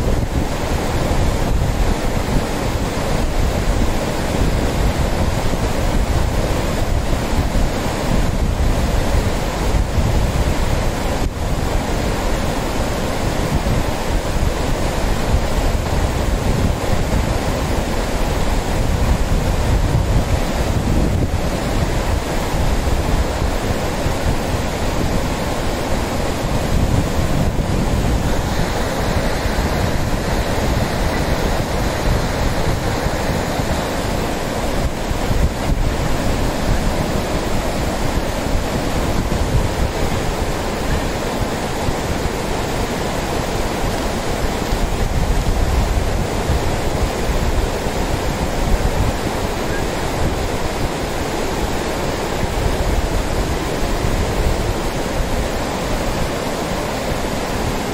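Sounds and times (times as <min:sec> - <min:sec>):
river rapids rushing: 0:00.0 - 0:57.9.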